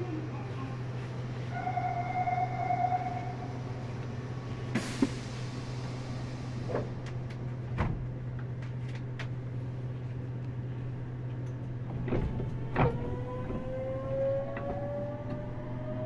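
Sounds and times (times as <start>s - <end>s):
railcar low hum: 0.0s - 16.0s.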